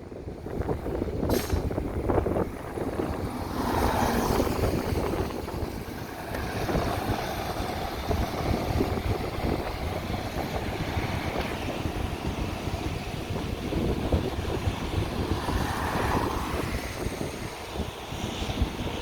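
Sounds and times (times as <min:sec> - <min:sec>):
road traffic rumble: 0:00.0 - 0:19.0
wind buffeting microphone: 0:00.0 - 0:19.0.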